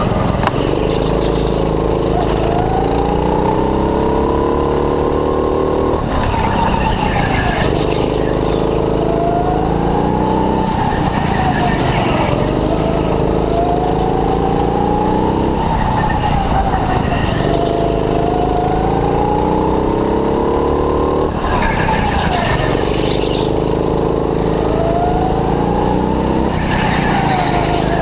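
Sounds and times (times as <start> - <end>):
go-kart engine revving: 0.0 - 28.0.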